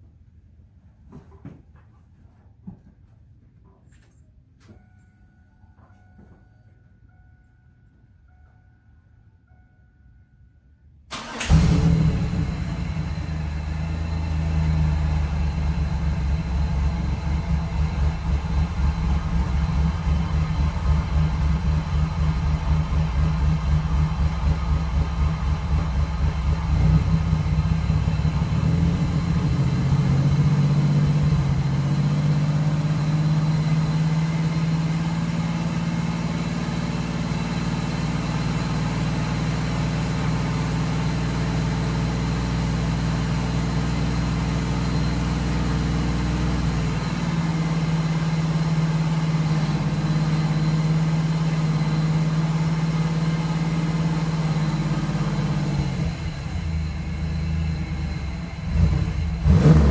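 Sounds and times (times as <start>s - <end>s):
car engine idling: 11.1s - 59.9s.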